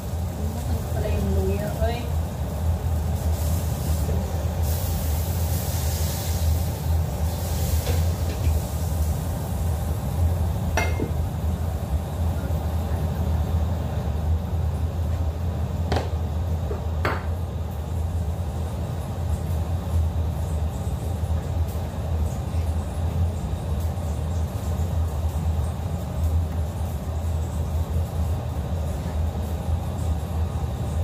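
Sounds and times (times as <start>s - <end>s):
gas stove rumble: 0.0s - 31.0s.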